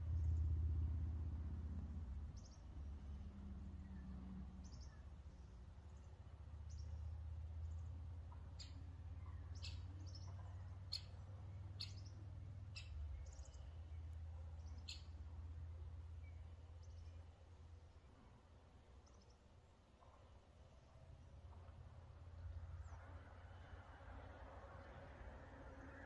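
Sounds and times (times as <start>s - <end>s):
low steady rumble: 0.0s - 26.0s
songbird chirping: 0.0s - 26.0s.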